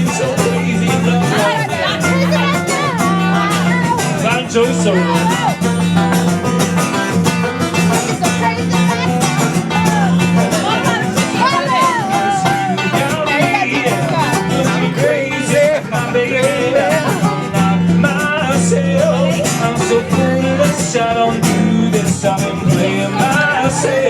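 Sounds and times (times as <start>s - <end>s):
acoustic guitar strumming: 0.0s - 24.0s
person singing: 0.0s - 24.0s.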